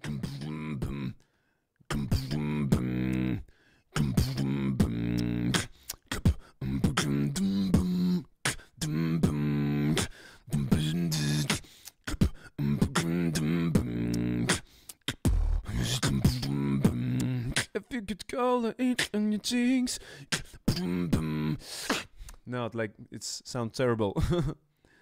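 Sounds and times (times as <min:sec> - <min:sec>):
beatboxing into microphone: 0:00.0 - 0:01.2, 0:01.9 - 0:18.0, 0:18.8 - 0:22.5.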